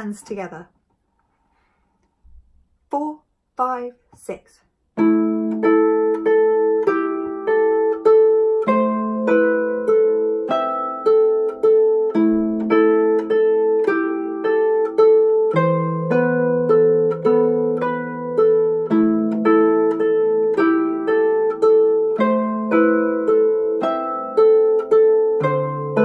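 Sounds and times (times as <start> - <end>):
plucked harp bass notes: 5.0 - 26.0
plucked harp melody: 5.0 - 26.0.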